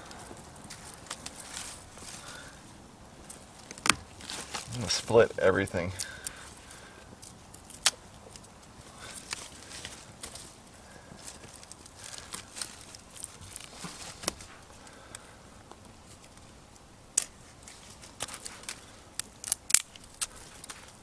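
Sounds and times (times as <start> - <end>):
dry twigs snapping: 0.0 - 2.6, 3.2 - 5.0, 5.6 - 21.0.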